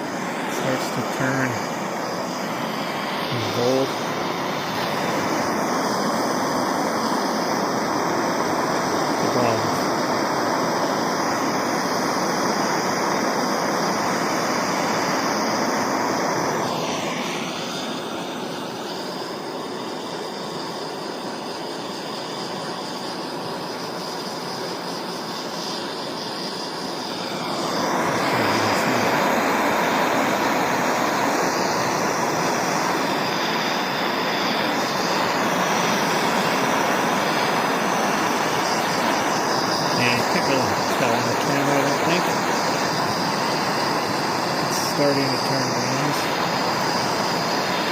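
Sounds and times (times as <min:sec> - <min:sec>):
propane torch hissing: 0:00.0 - 0:47.9.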